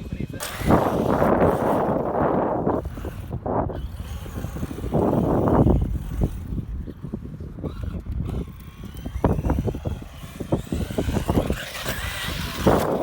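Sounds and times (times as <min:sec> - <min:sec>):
motor whine: 0:00.0 - 0:13.0
toy car rumbling over sand: 0:00.0 - 0:13.0.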